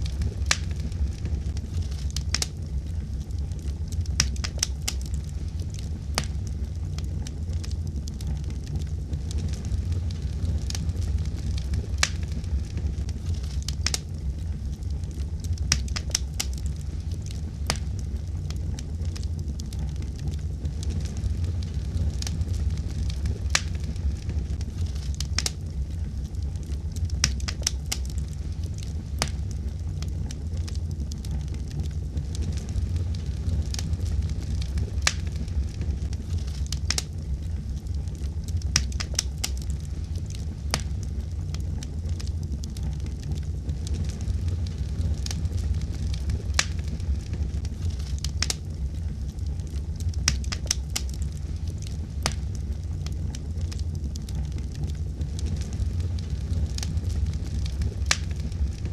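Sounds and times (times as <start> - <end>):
fire crackling and popping: 0.0 - 58.9
low rumble of flames: 0.0 - 58.9.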